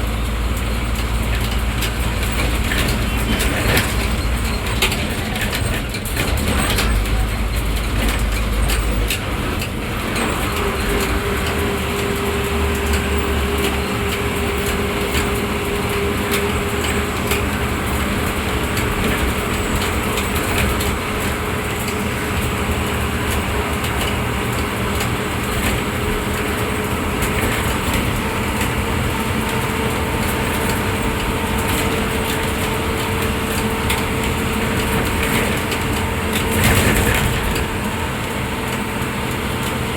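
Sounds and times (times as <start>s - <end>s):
bus engine and road noise: 0.0s - 39.9s
rattles in bus cabin: 0.0s - 39.9s.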